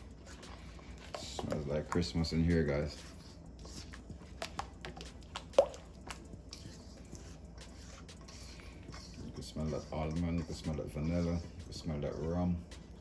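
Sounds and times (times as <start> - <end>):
batter squelching with spatula: 0.0 - 13.0.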